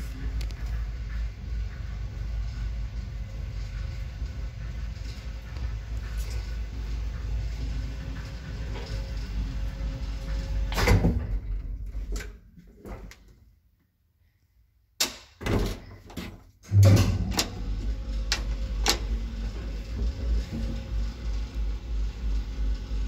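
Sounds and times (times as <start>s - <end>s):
elevator running hum: 0.0s - 13.1s, 16.6s - 23.0s.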